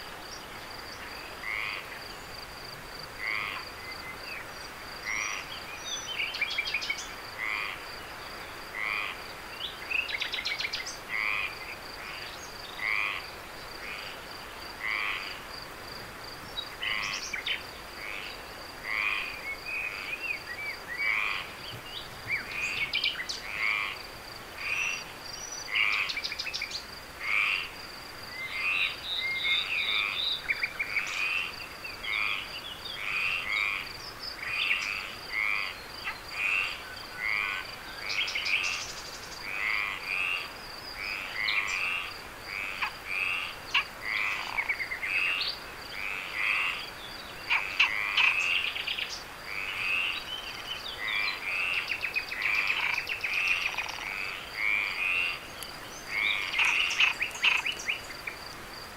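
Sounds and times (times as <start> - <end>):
frogs croaking: 0.0 - 58.9.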